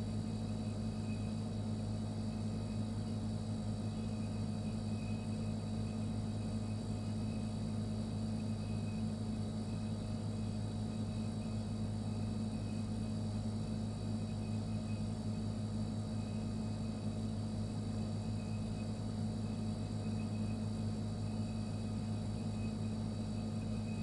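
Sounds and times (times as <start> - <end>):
refrigerator humming: 0.0 - 24.0.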